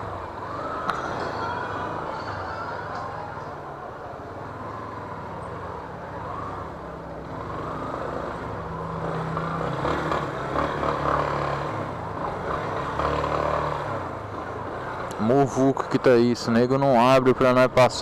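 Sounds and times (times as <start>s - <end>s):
traffic engines: 0.0s - 18.0s.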